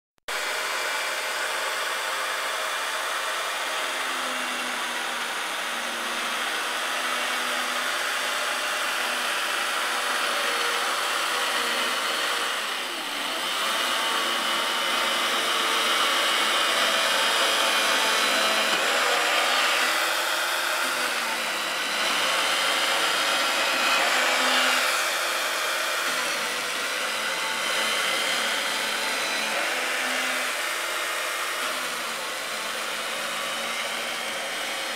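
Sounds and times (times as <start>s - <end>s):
chain mortiser cutting wood: 0.3s - 34.9s.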